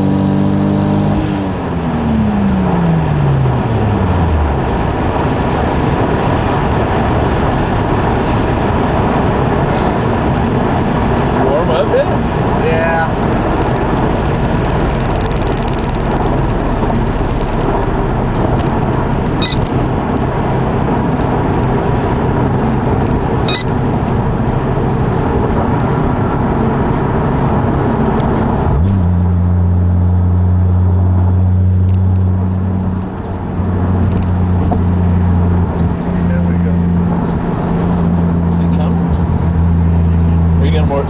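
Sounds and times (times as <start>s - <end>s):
car engine and road noise: 0.0s - 41.0s
steady low drone: 1.5s - 41.0s.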